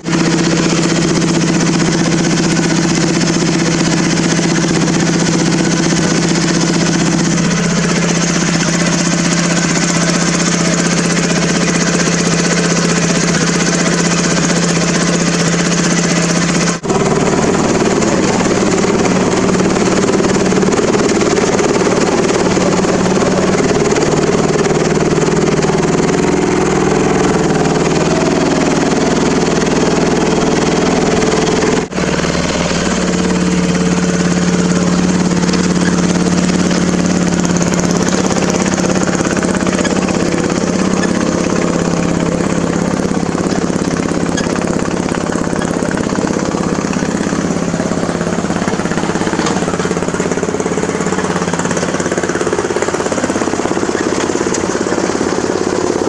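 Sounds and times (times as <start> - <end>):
riding mower engine running: 0.0 - 56.0
water splashing off tires: 0.0 - 56.0.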